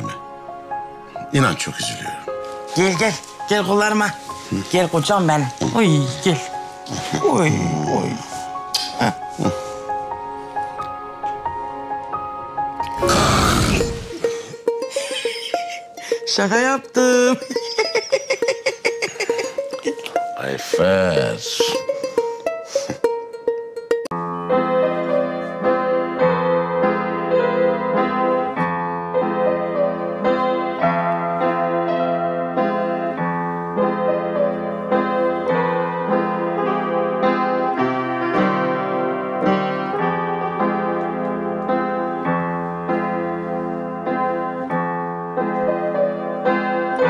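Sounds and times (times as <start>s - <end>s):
piano piece: 0.0s - 47.0s.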